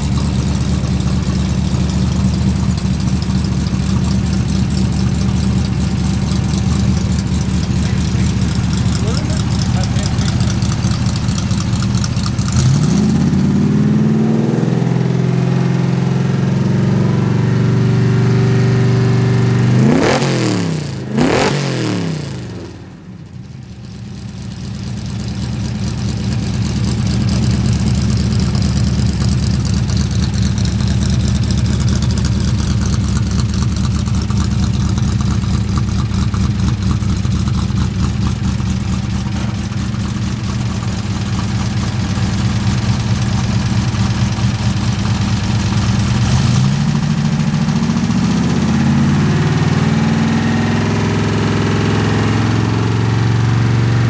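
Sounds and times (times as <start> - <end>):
car engine revving and idling: 0.0 - 54.0.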